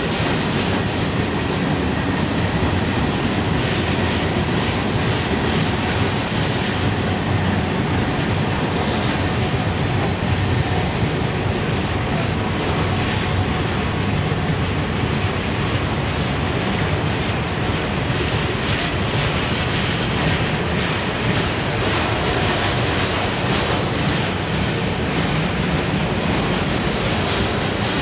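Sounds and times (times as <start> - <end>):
freight train wheels rolling on rails: 0.0 - 28.0.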